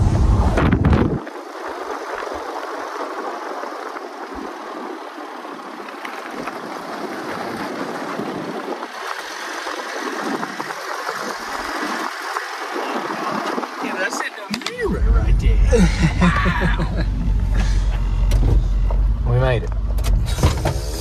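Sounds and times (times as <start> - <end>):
road and wind noise from driving: 0.0 - 21.0.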